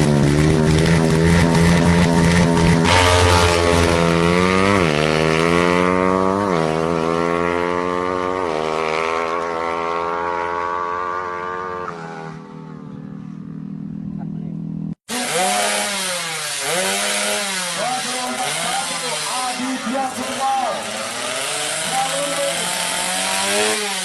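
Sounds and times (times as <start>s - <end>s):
motorcycle engine at full throttle: 0.0s - 24.0s.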